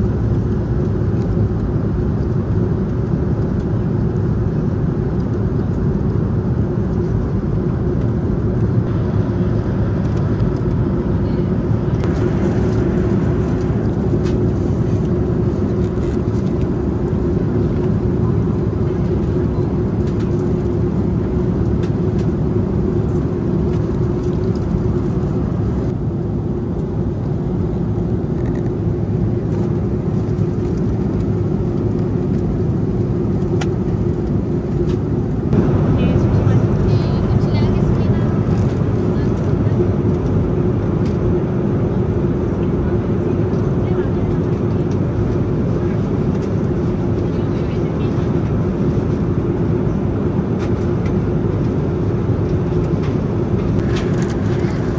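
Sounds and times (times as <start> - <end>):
airliner cabin engine roar: 0.0 - 54.9.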